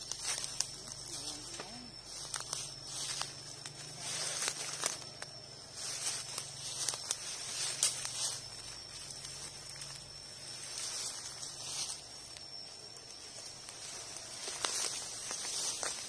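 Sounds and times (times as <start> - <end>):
footsteps crunching through dry leaves: 0.0 - 16.0.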